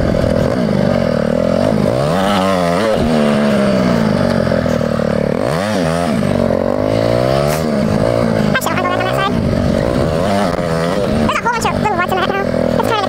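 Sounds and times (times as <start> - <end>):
mini bike engine revving: 0.0 - 13.0.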